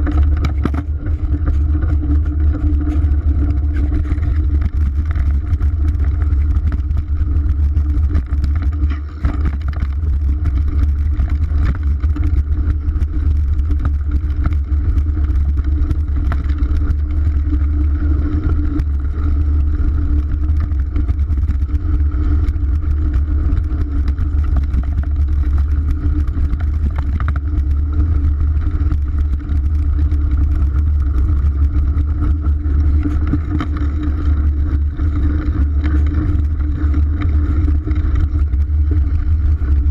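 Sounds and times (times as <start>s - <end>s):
bike rattling clicks and knocks: 0.0s - 39.9s
rumble of wind and tyres: 0.0s - 39.9s.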